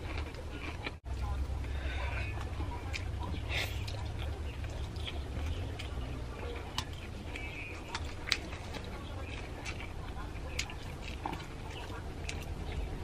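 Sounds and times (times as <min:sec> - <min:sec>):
low steady hum: 0:00.0 - 0:13.0
noodles slurped and chewed: 0:00.0 - 0:13.0.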